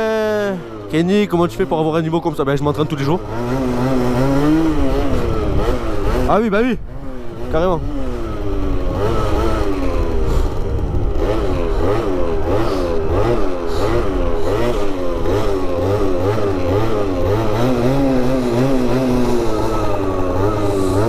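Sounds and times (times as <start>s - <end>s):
scooter engine revving: 0.0s - 21.0s.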